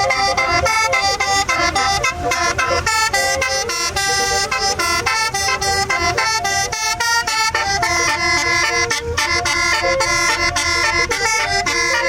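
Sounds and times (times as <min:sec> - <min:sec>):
musical bus horn playing tune: 0:00.0 - 0:12.0.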